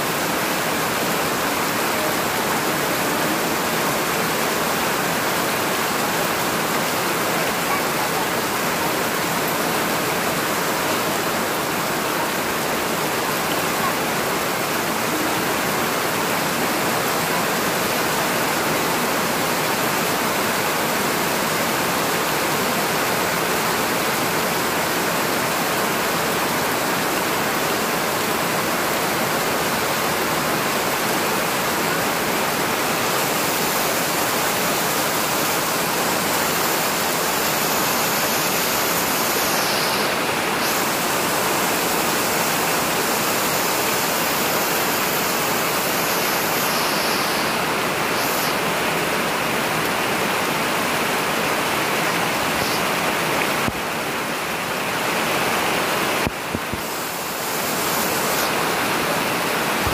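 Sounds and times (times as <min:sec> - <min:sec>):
heavy rain on plants and soil: 0:00.0 - 0:59.9.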